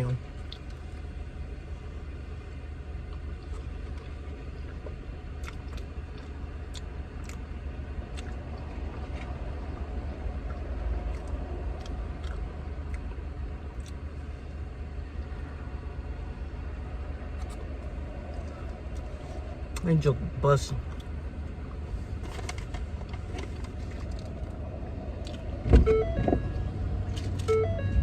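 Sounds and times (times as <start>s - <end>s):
car engine idling rumble: 0.0s - 28.0s.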